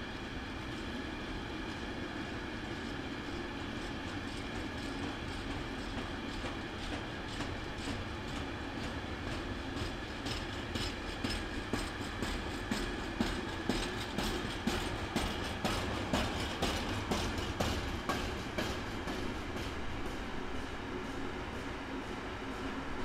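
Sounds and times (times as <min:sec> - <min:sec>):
train wheels clicking over rail joints: 0:01.7 - 0:21.8.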